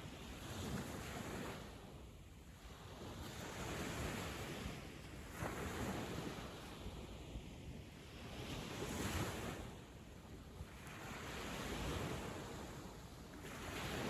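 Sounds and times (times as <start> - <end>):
ocean waves washing on beach: 0.0 - 14.0.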